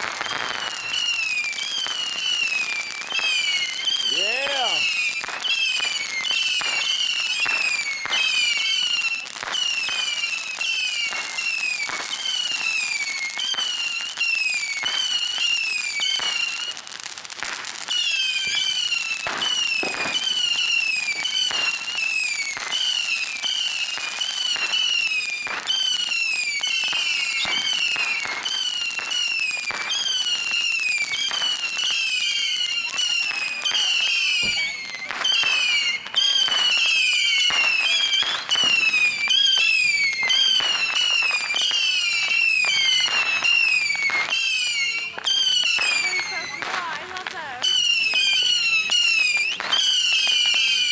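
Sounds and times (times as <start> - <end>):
firework pops and crackles: 0.0 - 50.9
whistling firework: 0.0 - 50.9.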